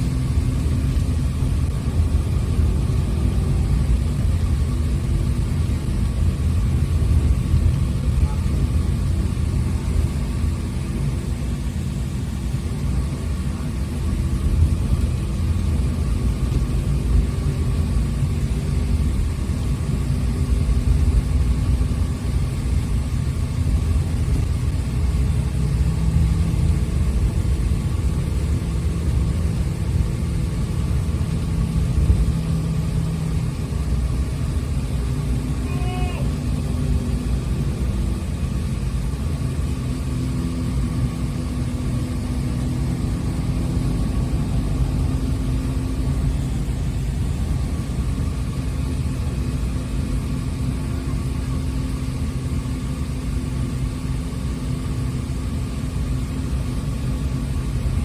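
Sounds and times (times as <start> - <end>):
bus engine running: 0.0 - 58.0
road rumble: 0.0 - 58.0.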